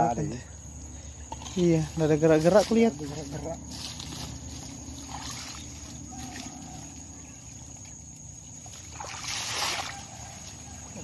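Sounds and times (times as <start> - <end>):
low outdoor rumble: 0.0 - 9.1
high-pitched insect drone: 0.0 - 11.0.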